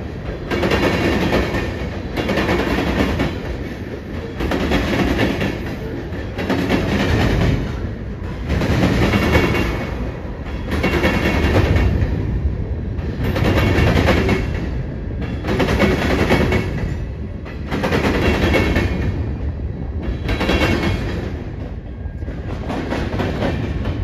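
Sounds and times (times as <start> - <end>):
freight train rumble: 0.0 - 24.0.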